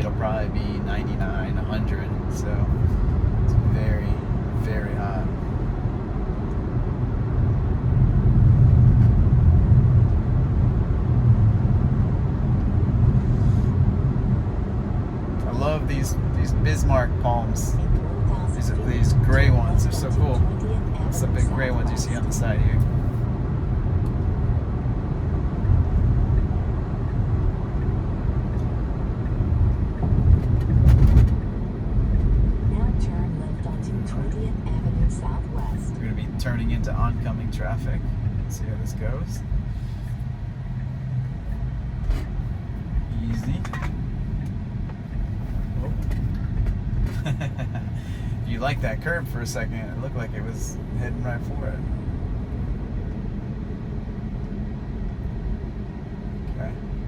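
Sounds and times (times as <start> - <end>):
road and tyre rumble in car cabin: 0.0 - 57.0.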